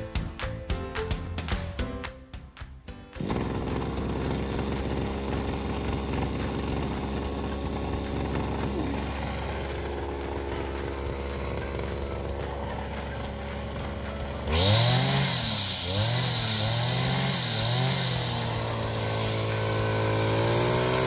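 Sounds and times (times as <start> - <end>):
brush cutter engine idling: 3.2 - 21.0.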